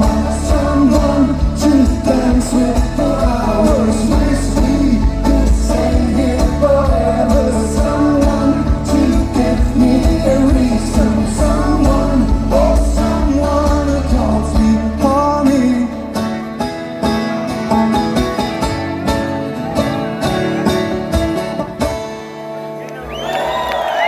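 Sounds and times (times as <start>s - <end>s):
banjo: 0.0s - 22.8s
folk-rock band playing: 0.0s - 24.0s
guitar: 0.0s - 24.0s.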